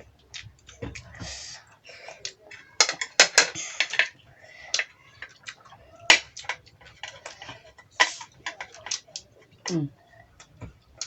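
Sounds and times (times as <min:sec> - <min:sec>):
food crunching while chewed: 0:00.0 - 0:11.0.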